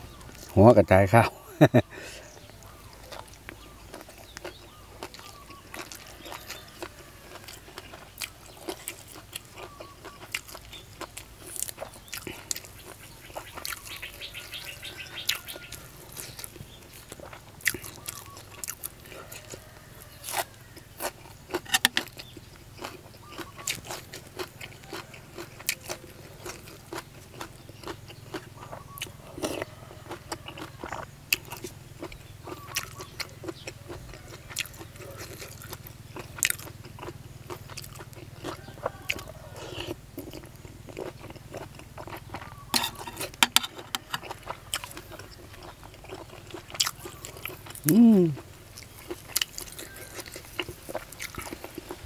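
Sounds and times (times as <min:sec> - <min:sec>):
person chewing crunchy food: 0:02.3 - 0:52.0.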